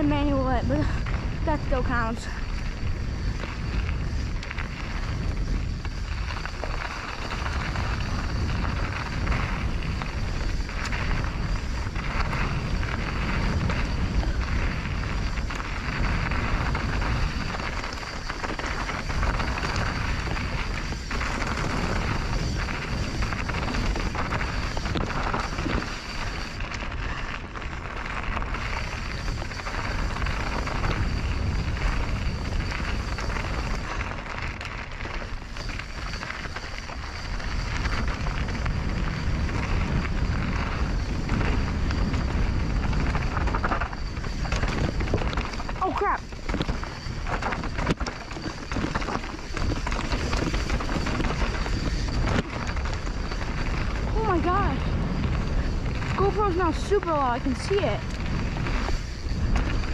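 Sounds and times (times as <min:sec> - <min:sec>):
bike rattling over rocks: 0:00.0 - 0:59.9
thin high whine: 0:00.0 - 0:59.9
wind rumble on microphone: 0:00.0 - 0:59.9.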